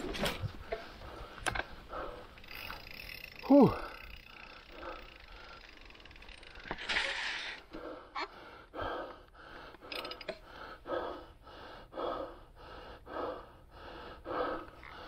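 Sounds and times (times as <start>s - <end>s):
person breathing hard: 0.6s - 6.7s, 7.5s - 15.0s.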